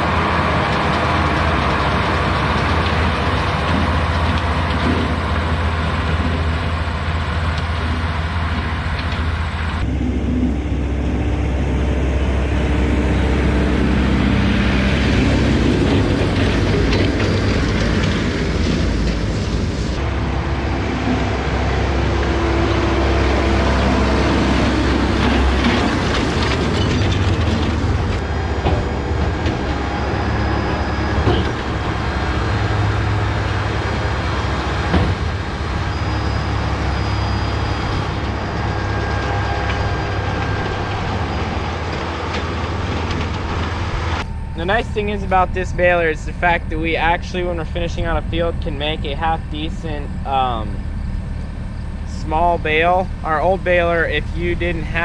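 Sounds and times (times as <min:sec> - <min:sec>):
baler machinery clattering: 0:00.0 - 0:55.0
tractor engine under load: 0:00.0 - 0:55.0.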